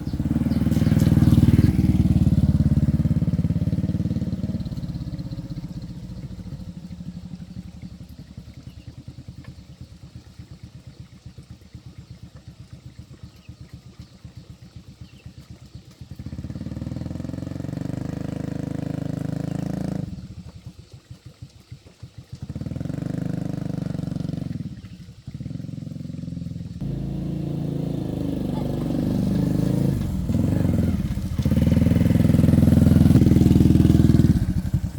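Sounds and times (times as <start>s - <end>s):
small engine idling and revving: 0.0s - 34.9s.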